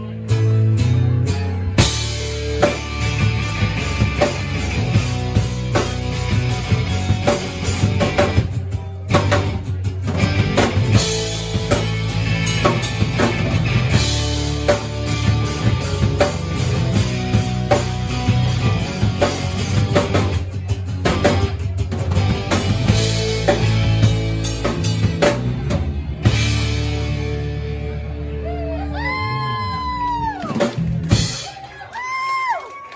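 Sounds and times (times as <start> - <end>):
drum kit: 0.0 - 28.3, 29.0 - 32.2
bass guitar: 0.0 - 32.9
electric guitar: 0.0 - 32.9.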